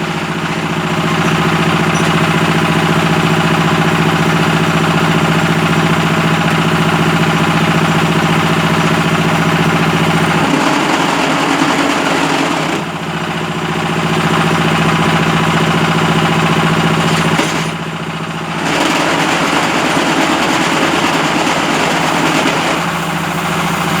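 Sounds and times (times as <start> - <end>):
block moulding machine humming: 0.0 - 24.0.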